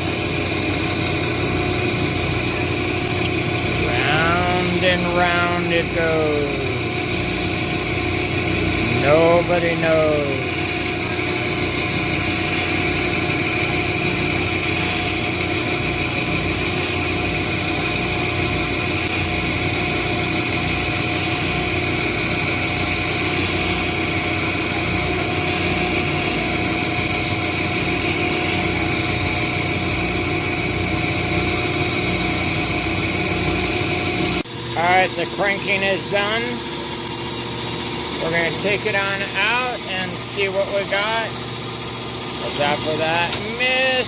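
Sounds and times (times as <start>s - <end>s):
rock saw motor hum: 0.0s - 44.0s
saw whining tones: 0.0s - 44.0s.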